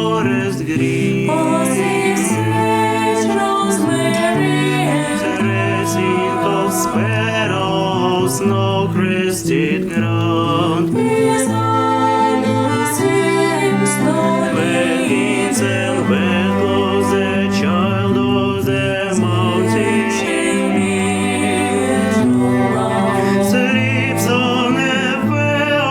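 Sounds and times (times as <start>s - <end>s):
vocal quartet singing in harmony: 0.0s - 25.9s.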